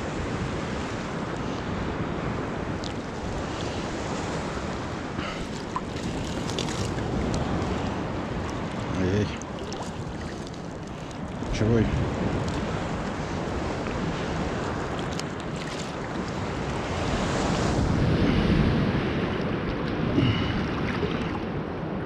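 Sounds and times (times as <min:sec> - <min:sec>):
sea surf washing on shore: 0:00.0 - 0:22.0
wind buffeting microphone: 0:00.0 - 0:22.0.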